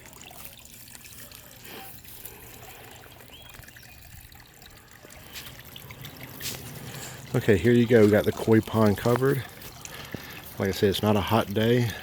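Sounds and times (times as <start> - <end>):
faint water trickle: 0.0 - 12.0.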